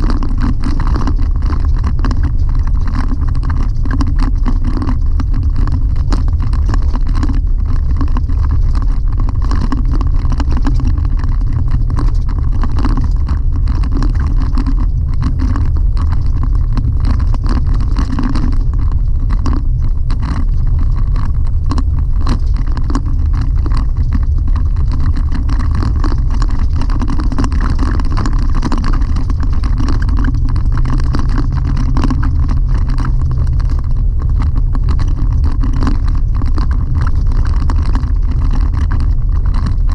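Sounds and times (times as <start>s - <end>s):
engine and tyres rumbling: 0.0s - 39.9s
gravel clicks and rattles: 0.0s - 39.9s.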